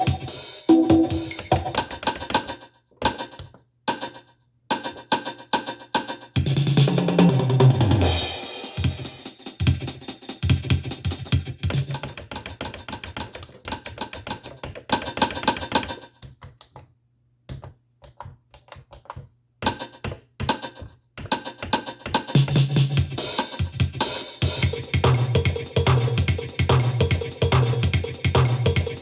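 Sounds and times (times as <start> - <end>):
drum machine beat with effects: 0.0 - 16.1, 19.6 - 29.0.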